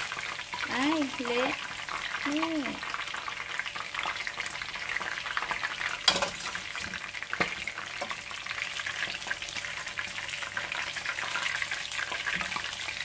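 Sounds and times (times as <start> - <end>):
fish deep-frying in oil: 0.0 - 13.0.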